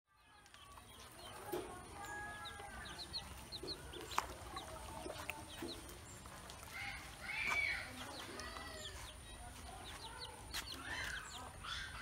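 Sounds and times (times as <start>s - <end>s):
ducklings peeping: 0.2s - 12.0s.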